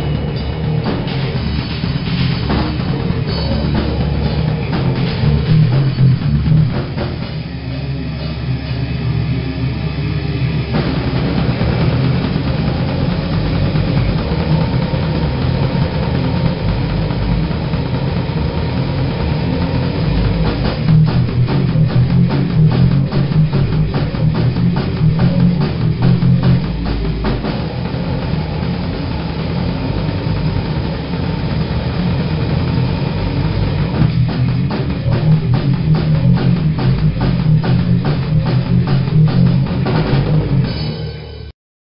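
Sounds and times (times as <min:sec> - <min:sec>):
fast rapid drumming: 0:00.0 - 0:07.6, 0:10.7 - 0:41.1
grindcore band playing: 0:00.0 - 0:41.5.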